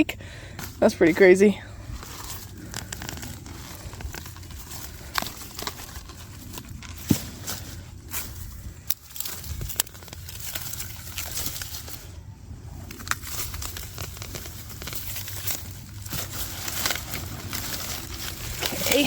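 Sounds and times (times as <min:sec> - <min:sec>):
onion plants rustling and crackling: 0:00.0 - 0:19.0.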